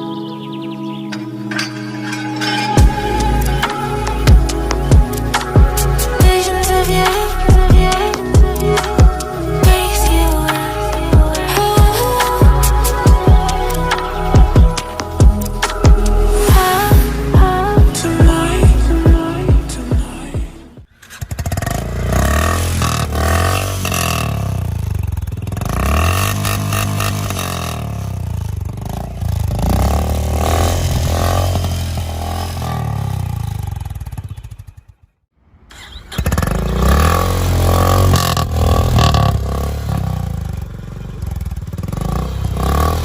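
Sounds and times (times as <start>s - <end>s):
motorcycle engine revving: 0.9s - 43.0s.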